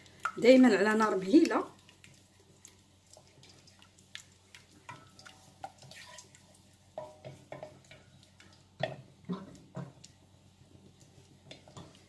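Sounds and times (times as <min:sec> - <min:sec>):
wet sauce sounds: 0:00.0 - 0:12.0.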